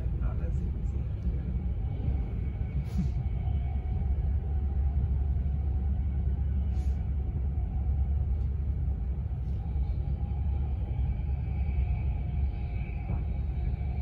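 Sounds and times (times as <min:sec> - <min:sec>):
faint whine: 0:00.0 - 0:14.0
train wheels rumbling on track: 0:00.0 - 0:14.0.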